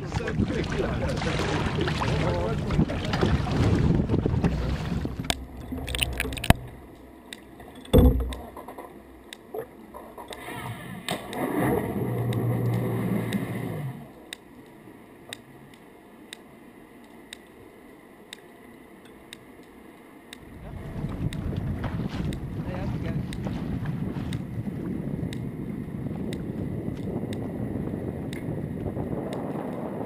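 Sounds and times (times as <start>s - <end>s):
water sloshing and gurgling: 0.0s - 15.8s, 20.4s - 30.0s.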